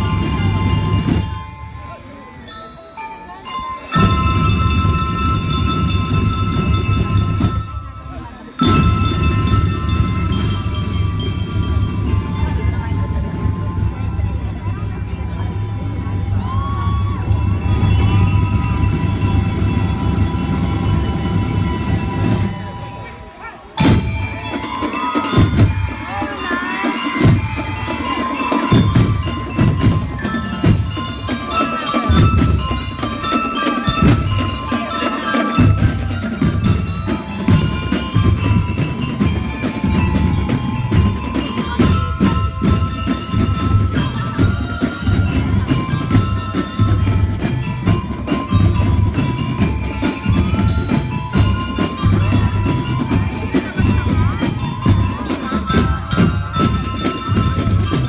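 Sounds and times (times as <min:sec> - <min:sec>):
marching drums beat: 0:00.0 - 0:02.1, 0:03.9 - 0:23.1, 0:23.8 - 0:58.0
bell lyres playing melody: 0:00.0 - 0:58.0.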